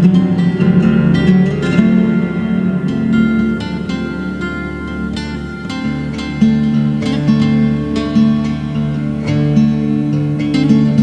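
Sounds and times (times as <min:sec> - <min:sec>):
acoustic guitar with reverb: 0:00.0 - 0:11.0.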